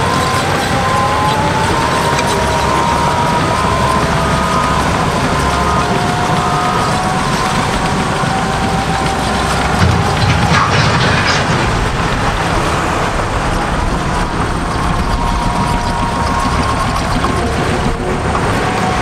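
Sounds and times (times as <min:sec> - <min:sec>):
bulldozer engine and tracks: 0:00.0 - 0:19.0.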